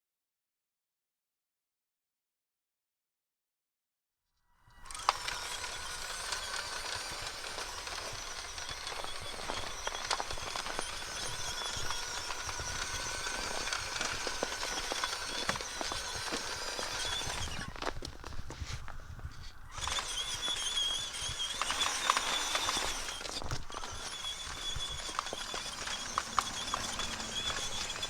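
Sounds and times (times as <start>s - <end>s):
toy truck electric motor whine: 4.6s - 28.0s.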